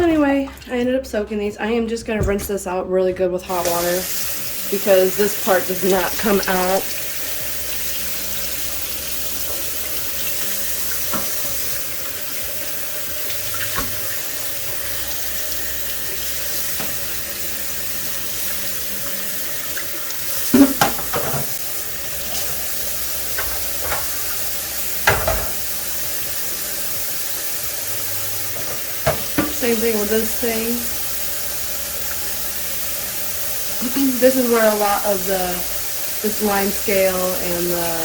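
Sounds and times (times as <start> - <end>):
water running from tap: 0.0 - 2.4, 3.4 - 38.0.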